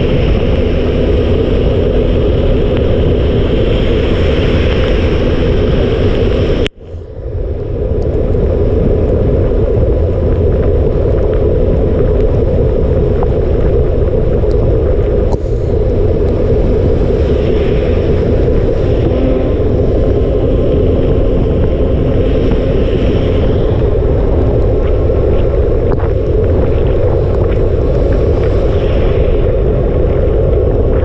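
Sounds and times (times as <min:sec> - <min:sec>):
wind and rain on microphone: 0:00.0 - 0:31.0.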